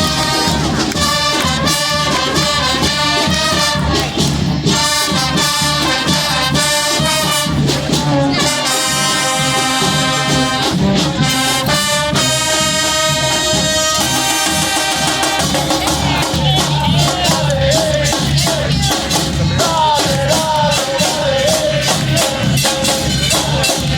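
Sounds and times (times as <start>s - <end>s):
brass band playing latin tune: 0.0s - 23.9s.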